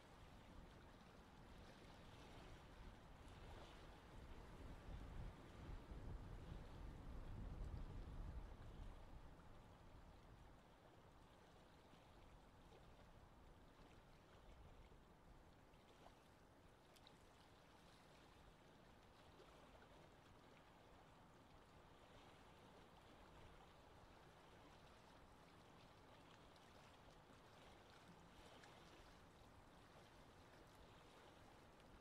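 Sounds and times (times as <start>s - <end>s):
small waves lapping shore: 0.0s - 32.0s.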